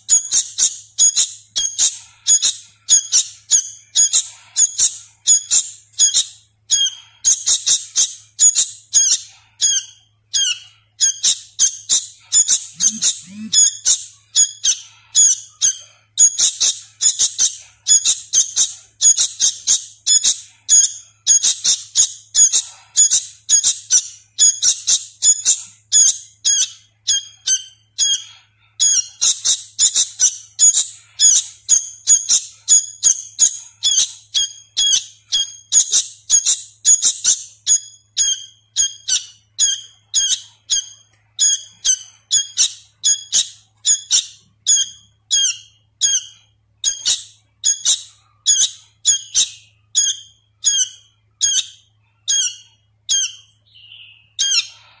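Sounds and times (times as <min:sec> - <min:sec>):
bird chick chirping: 0:00.1 - 0:55.0.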